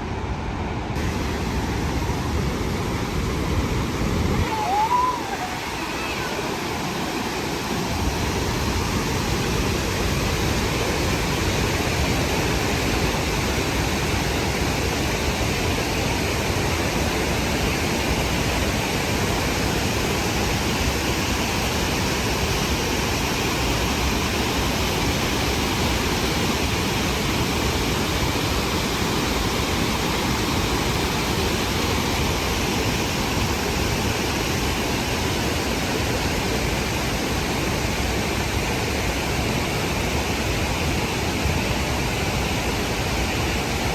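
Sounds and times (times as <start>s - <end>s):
waterfall roaring: 0.0s - 43.9s.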